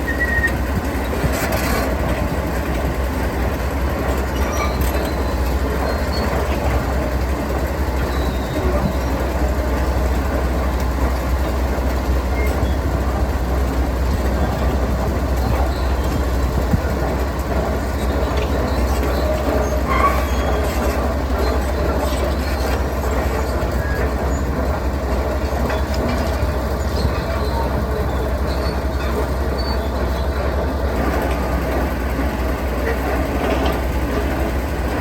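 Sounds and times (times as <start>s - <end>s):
diesel machinery rumbling: 0.0s - 35.0s.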